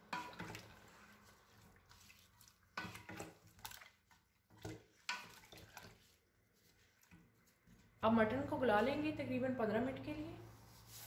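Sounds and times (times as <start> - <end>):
wet stirring in a pot: 0.0 - 9.1.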